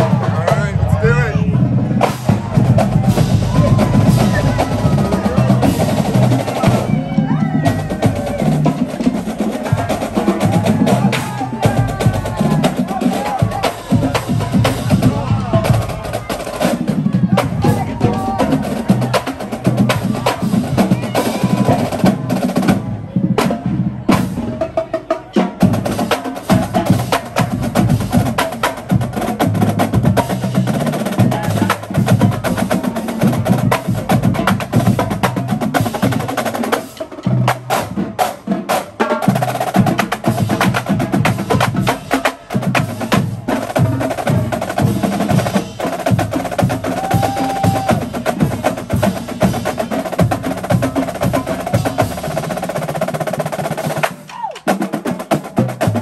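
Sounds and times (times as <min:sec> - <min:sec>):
marching drumline playing: 0:00.0 - 0:56.0.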